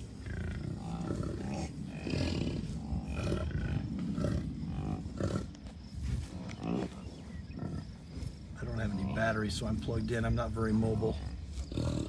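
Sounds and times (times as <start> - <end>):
bison grunting: 0.0 - 12.0.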